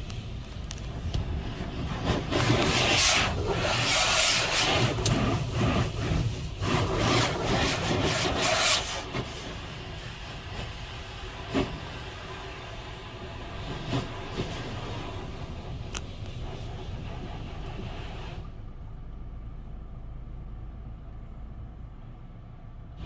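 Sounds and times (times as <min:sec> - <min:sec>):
water spraying over car: 0:00.0 - 0:18.7.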